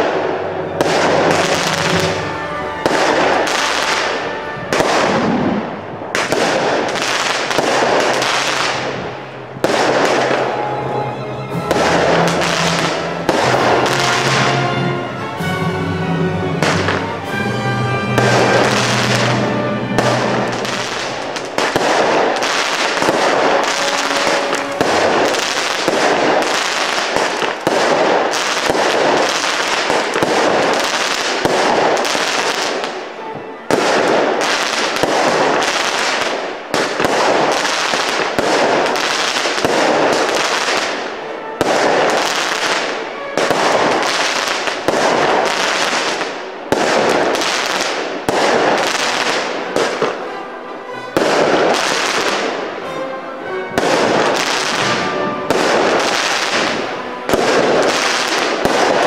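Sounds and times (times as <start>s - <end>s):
fireworks firing and crackling: 0.0s - 10.7s, 11.5s - 14.8s, 18.0s - 50.3s, 51.1s - 52.7s, 53.8s - 59.0s.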